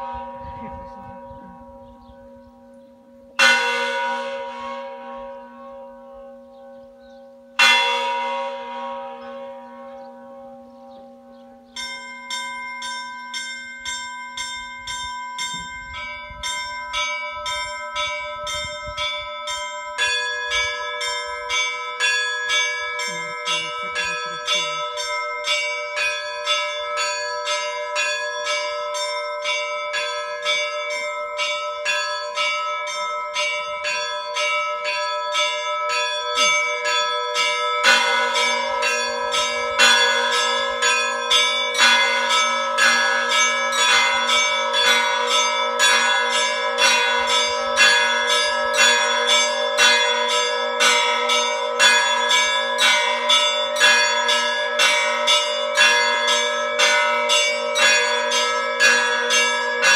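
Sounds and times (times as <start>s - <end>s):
church bells ringing: 0.0s - 59.9s
deep bell ringing: 0.0s - 59.9s.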